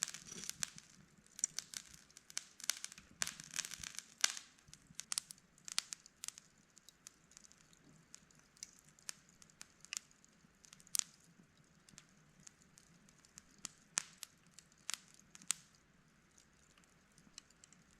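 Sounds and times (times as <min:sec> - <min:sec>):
wood fire crackling and popping: 0:00.0 - 0:17.9.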